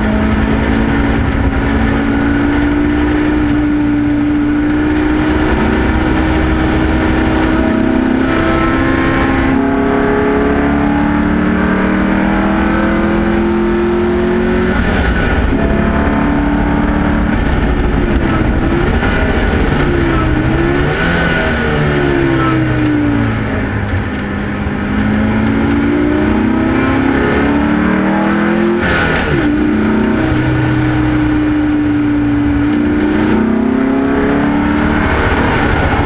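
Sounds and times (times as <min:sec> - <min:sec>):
racing car engine: 0:00.0 - 0:36.0
wind and road noise: 0:00.0 - 0:36.0.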